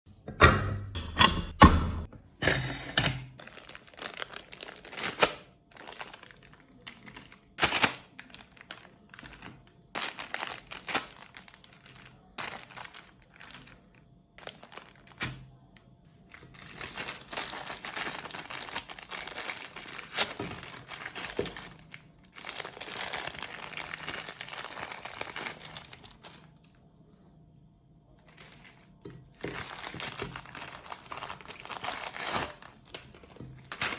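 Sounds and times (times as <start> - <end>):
crinkling handling noise: 2.4 - 26.9, 28.2 - 33.9.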